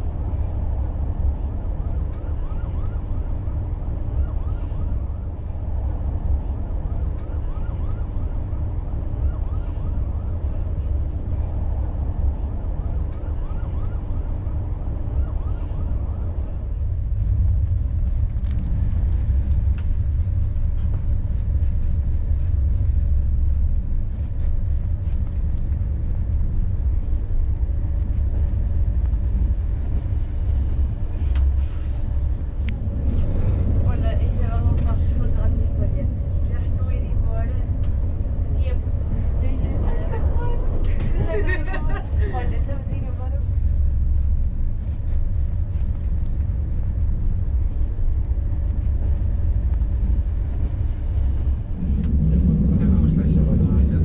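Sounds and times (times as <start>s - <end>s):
faint steady whine: 0.0s - 54.0s
train coach rumbling on track: 0.0s - 54.0s.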